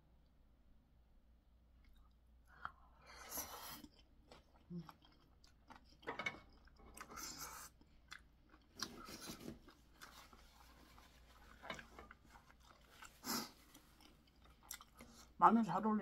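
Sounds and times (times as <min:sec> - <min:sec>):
close-miked chewing: 0:01.8 - 0:15.4.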